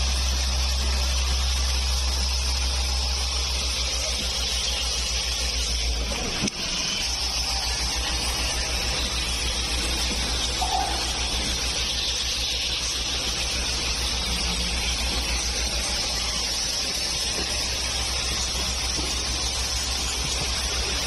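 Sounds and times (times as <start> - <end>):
machinery hissing and humming: 0.0 - 21.0.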